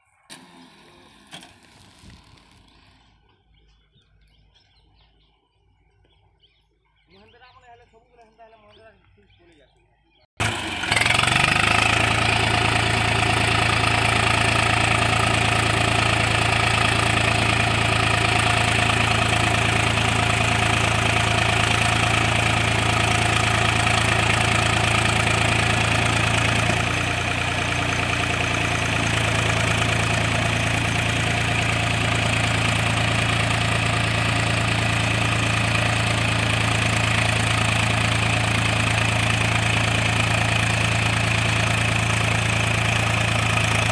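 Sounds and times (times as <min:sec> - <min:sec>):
tractor diesel engine running: 0:00.0 - 0:03.9, 0:10.4 - 0:43.9.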